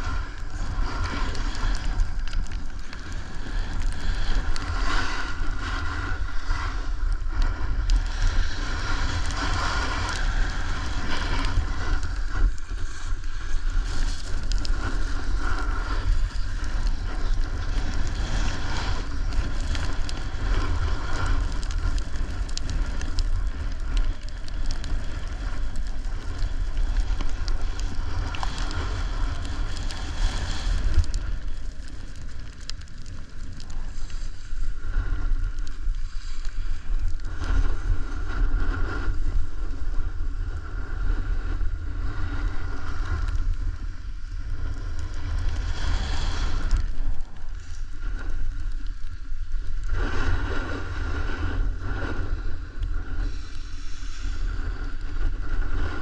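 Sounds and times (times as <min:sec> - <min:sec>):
snowboard sliding on snow: 0:00.0 - 0:56.0
wind buffeting microphone: 0:00.0 - 0:56.0.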